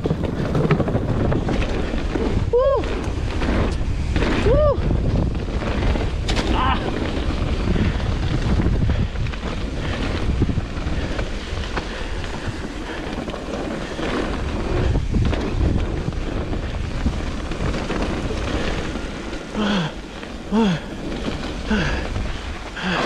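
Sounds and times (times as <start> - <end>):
bike knocks and rattles: 0.0 - 23.0
tyres rumbling over dirt: 0.0 - 23.0
wind on microphone: 0.0 - 23.0.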